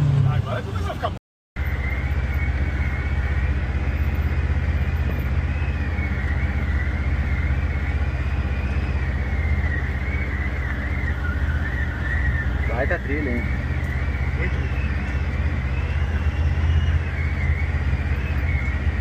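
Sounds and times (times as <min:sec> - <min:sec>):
utility vehicle engine droning: 0:00.0 - 0:19.0.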